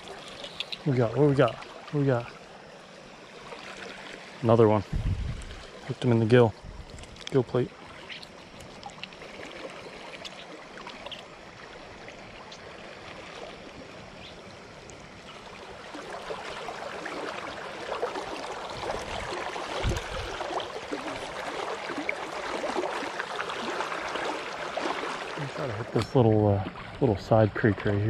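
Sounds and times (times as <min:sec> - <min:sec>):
creek water babbling: 0:00.0 - 0:28.0.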